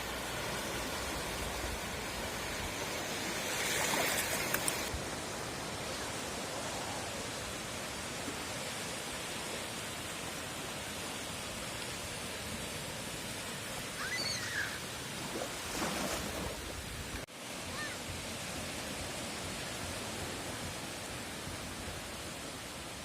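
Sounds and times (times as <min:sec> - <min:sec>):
waves washing on a beach: 0:00.0 - 0:23.0.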